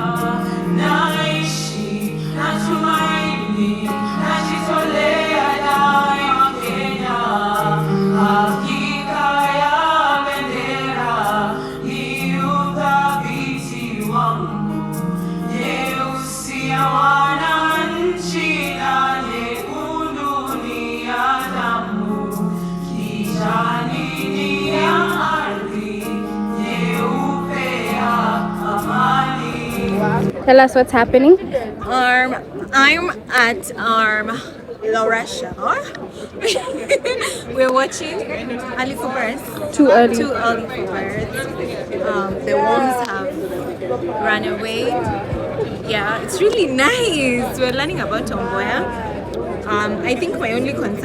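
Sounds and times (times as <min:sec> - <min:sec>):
choir singing gospel song: 0:00.0 - 0:30.5, 0:31.9 - 0:51.0.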